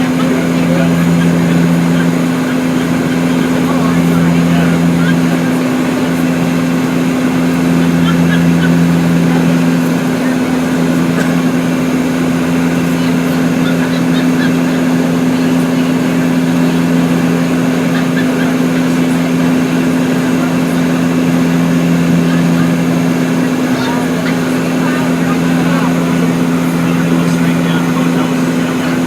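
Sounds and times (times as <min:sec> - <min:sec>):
airliner engine hum: 0:00.0 - 0:29.0.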